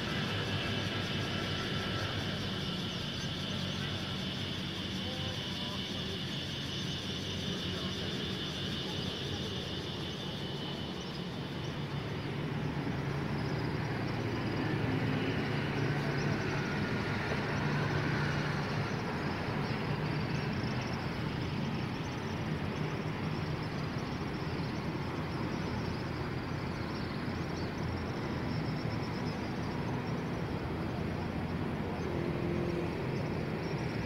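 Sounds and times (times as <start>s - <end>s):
city traffic noise: 0.0s - 34.0s.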